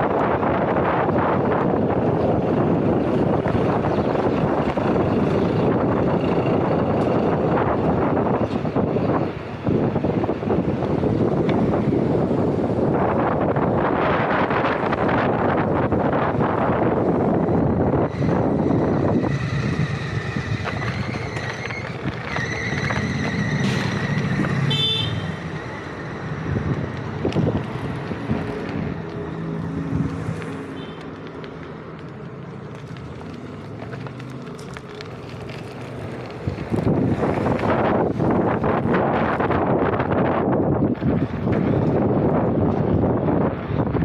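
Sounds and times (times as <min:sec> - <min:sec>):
city road traffic: 0:00.0 - 0:44.0.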